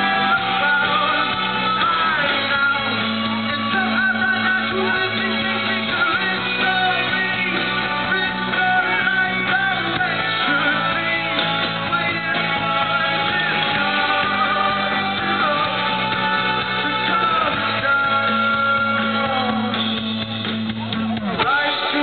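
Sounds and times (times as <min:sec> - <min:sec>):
lead vocal singing: 0:00.0 - 0:20.3, 0:21.2 - 0:22.0
rock band playing live: 0:00.0 - 0:22.0.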